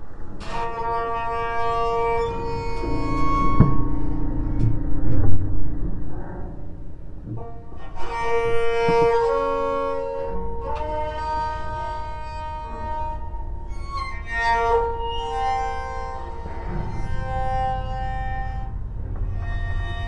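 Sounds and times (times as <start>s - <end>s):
bowed banjo notes: 0.4s - 20.0s.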